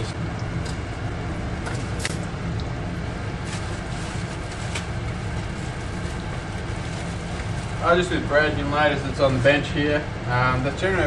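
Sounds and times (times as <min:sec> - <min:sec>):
gas burner rumble: 0:00.0 - 0:11.0.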